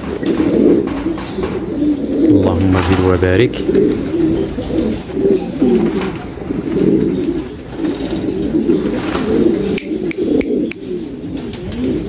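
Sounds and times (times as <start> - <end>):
pigeons cooing: 0.0 - 2.7, 3.6 - 12.0.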